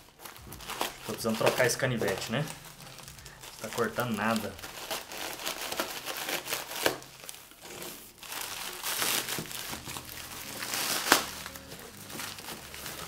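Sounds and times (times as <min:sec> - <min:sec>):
plastic bag crinkling and tearing: 0:00.0 - 0:13.0.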